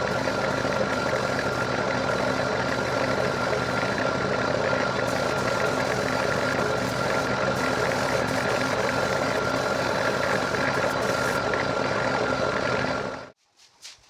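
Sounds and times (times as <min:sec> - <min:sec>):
air compressor running: 0:00.0 - 0:13.4.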